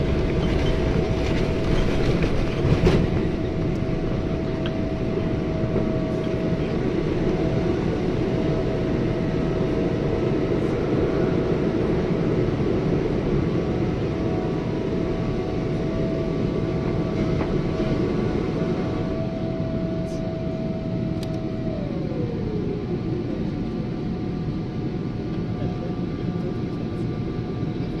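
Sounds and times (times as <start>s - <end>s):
jet engines rumbling in cabin: 0.0s - 28.0s
thin engine whine: 0.0s - 28.0s.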